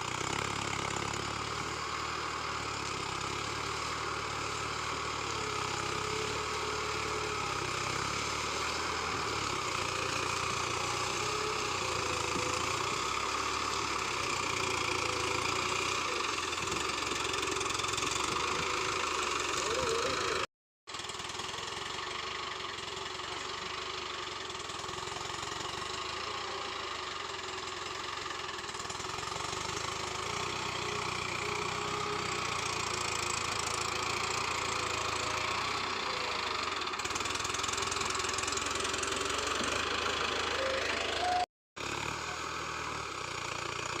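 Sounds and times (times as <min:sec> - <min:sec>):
diesel tractor engine running: 0:00.0 - 0:44.0.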